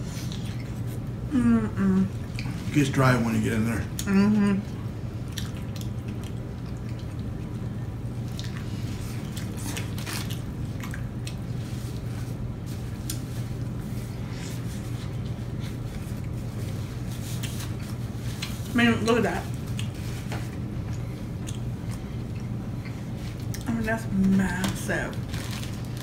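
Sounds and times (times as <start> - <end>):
people chewing with wet smacking: 0.0 - 26.0.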